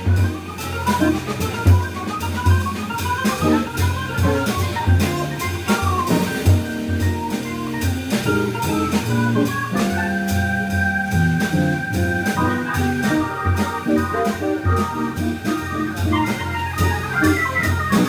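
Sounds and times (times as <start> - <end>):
drum kit with cymbals: 0.0 - 18.0
electric guitar solo runs: 0.0 - 18.0
organ bass line: 0.0 - 18.0
sustained organ chords: 0.0 - 18.0.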